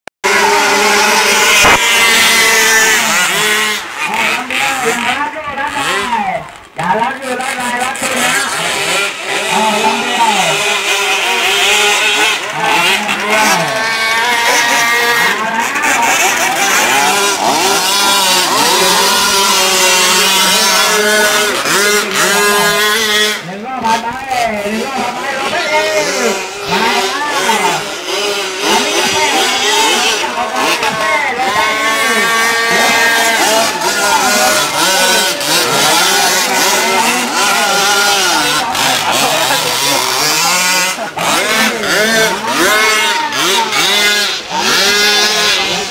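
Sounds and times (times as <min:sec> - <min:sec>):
model boat engine revving: 0:00.2 - 0:45.9.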